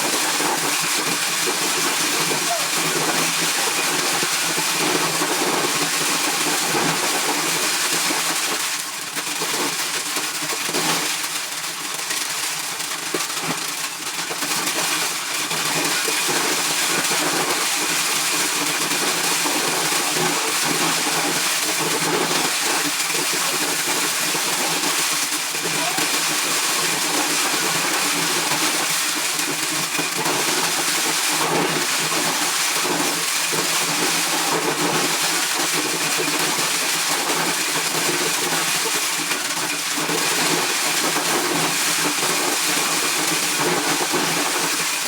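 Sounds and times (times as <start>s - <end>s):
corn shelling machine running: 0.0s - 45.0s.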